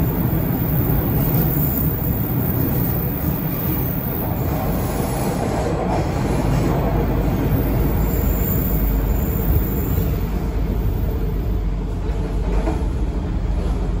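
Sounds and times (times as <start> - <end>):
subway train wheels rumbling on rails: 0.0 - 14.0.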